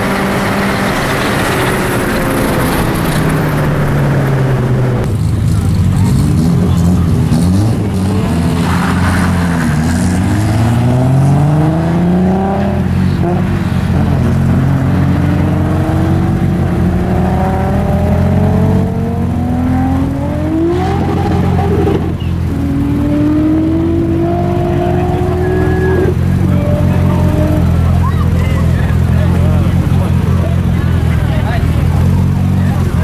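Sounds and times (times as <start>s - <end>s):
cars accelerating hard: 0.0s - 33.0s.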